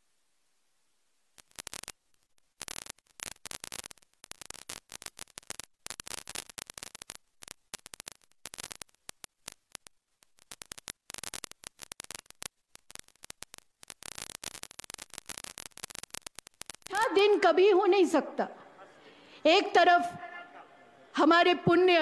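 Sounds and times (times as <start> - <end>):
harsh static crackling: 0.0 - 22.0.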